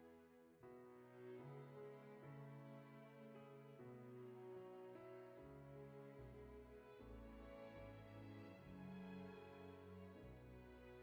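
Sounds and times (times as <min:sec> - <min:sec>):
slow orchestral string chords: 0:00.0 - 0:11.0.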